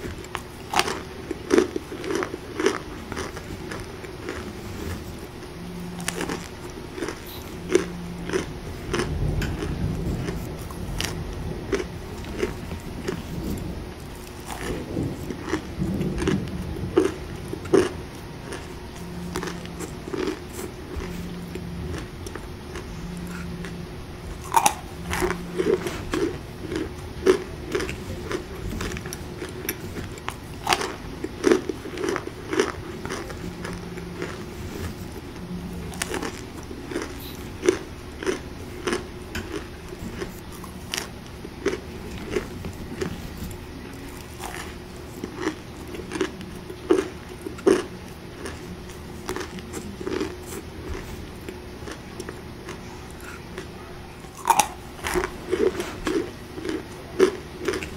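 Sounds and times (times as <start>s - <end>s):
crunchy chewing: 0.0s - 57.9s.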